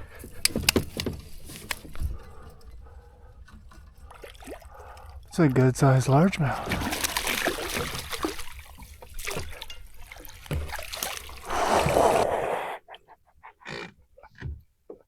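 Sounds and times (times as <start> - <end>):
water trickling and splashing: 0.0 - 12.6.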